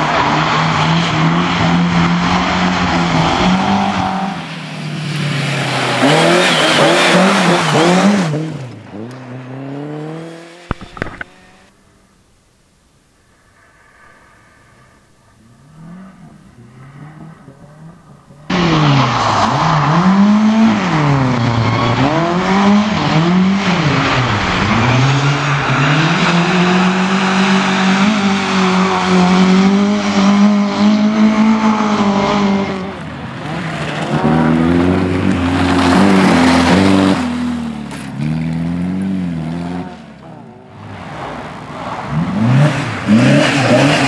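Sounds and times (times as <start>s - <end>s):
rally car engines revving: 0.0s - 12.2s, 13.4s - 44.0s.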